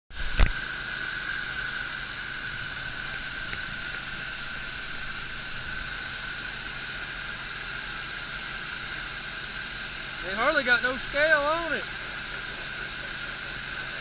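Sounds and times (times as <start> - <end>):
steady hiss with whistling tone: 0.6 - 14.0.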